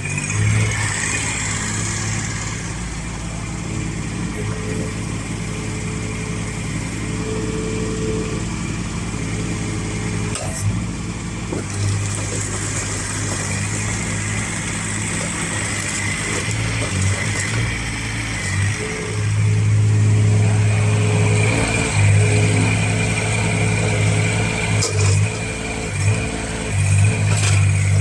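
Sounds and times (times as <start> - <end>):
small diesel engine running: 0.0 - 28.0.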